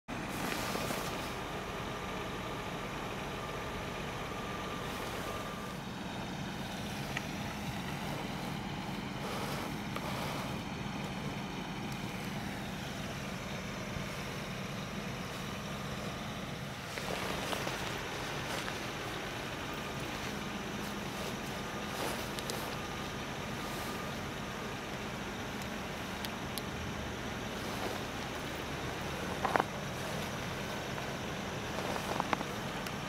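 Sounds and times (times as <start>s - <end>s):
vehicle engines idling: 0.0s - 33.0s
thin steady whine: 0.1s - 33.0s.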